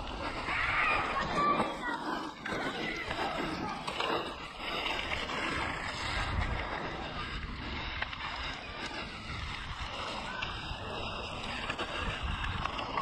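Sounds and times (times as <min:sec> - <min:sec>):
wind over microphone: 0:00.0 - 0:13.0.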